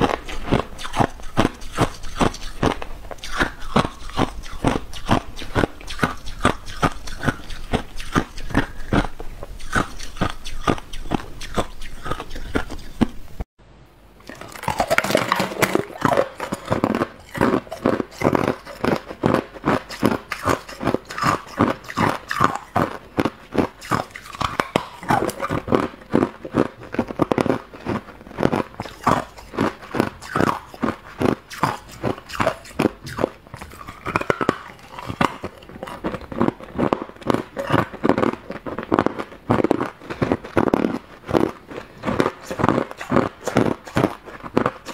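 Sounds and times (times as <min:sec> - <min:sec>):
ice crunching being chewed: 0:00.0 - 0:13.2, 0:14.2 - 0:44.9.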